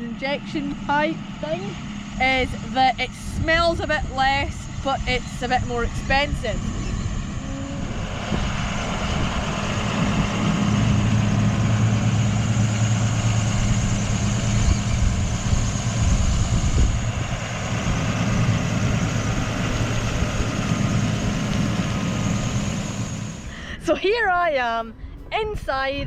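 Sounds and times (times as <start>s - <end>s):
broad rushing noise: 0.0s - 24.2s
tractor engine running: 0.0s - 26.0s.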